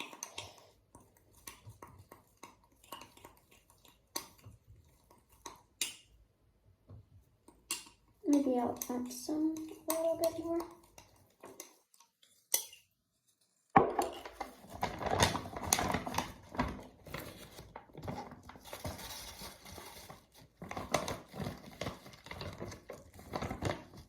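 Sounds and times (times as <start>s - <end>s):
slime stirred in a cup: 0.0s - 6.3s, 7.0s - 24.0s.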